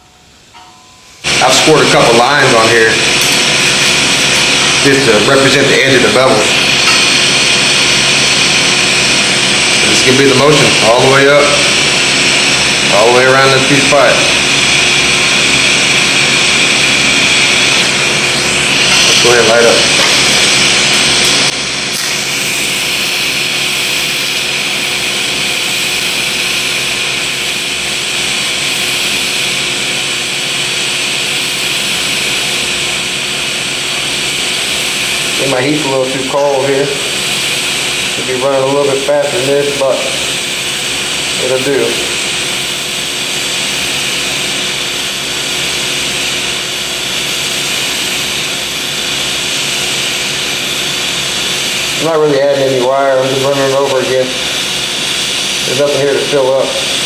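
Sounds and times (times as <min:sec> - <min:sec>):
welding arc hissing: 0:01.2 - 0:57.0.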